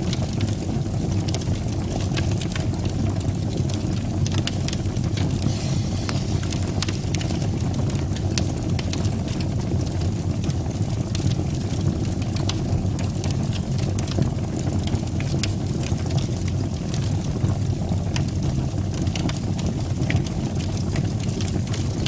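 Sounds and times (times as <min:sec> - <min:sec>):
fire crackling and popping: 0:00.0 - 0:22.0
fire rumbling in fireplace: 0:00.0 - 0:22.0.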